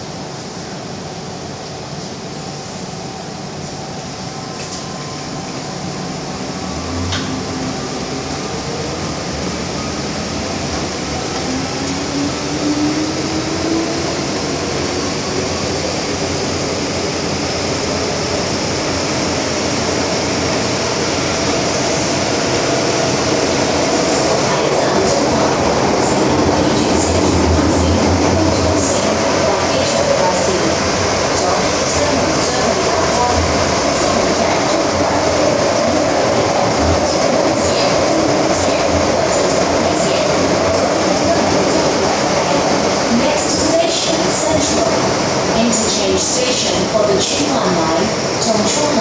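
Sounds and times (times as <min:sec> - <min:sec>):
wheels rumbling on rail: 0:04.5 - 0:49.0.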